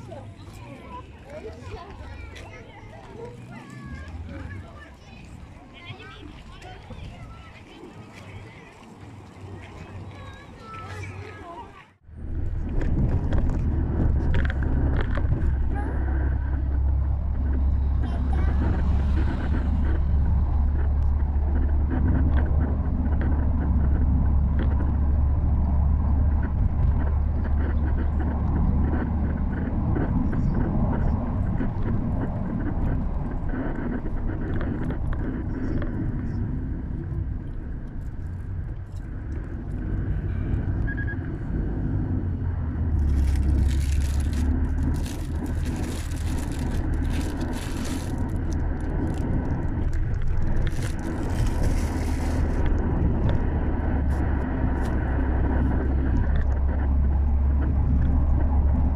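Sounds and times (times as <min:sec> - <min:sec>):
wind on microphone: 0:00.0 - 0:11.2, 0:12.1 - 0:58.9
road traffic rumble: 0:00.0 - 0:58.9.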